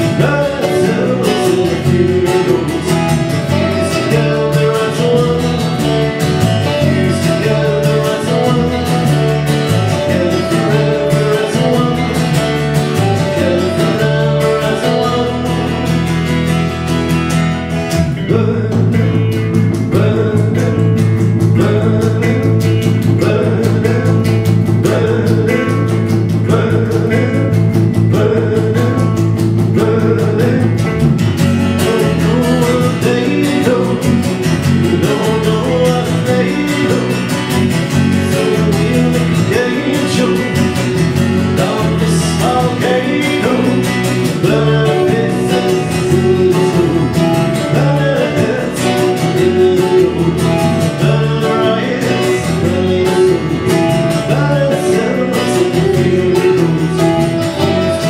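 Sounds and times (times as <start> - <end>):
electric bass guitar: 0.0 - 58.0
electric guitars: 0.0 - 58.0
strummed acoustic guitar: 0.0 - 58.0.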